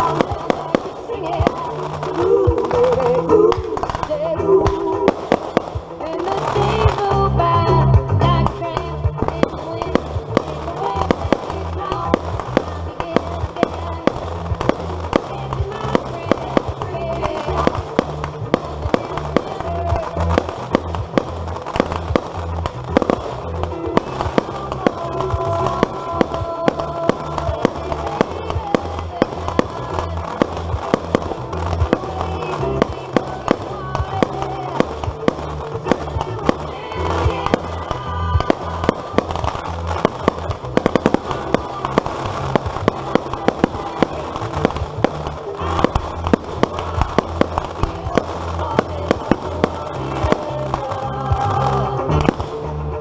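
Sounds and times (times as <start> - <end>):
fireworks bangs: 0.0 - 53.0
music with steady bass: 0.0 - 53.0.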